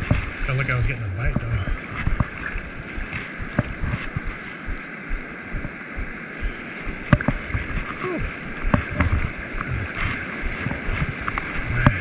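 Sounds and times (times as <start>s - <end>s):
ocean surf washing in: 0.0s - 12.0s
wind on microphone: 0.0s - 12.0s.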